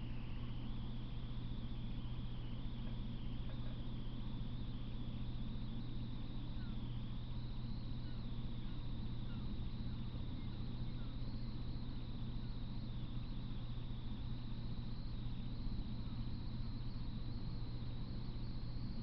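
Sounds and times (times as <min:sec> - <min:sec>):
faint wavering high whine: 0:00.0 - 0:19.0
low electrical hum with hiss: 0:00.0 - 0:19.0.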